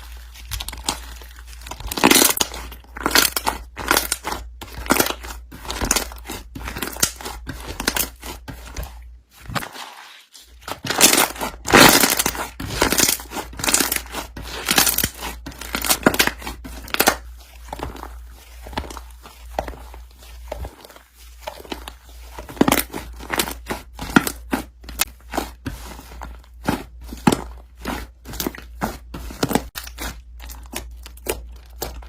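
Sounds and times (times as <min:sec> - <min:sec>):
slime crackling and squelching: 0:00.0 - 0:32.0.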